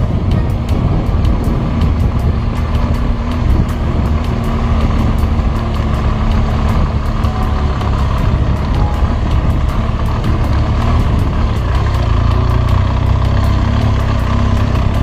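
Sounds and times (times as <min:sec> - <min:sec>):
motorcycle engine rumbling: 0:00.0 - 0:15.0
rapid irregular ticks: 0:00.0 - 0:15.0.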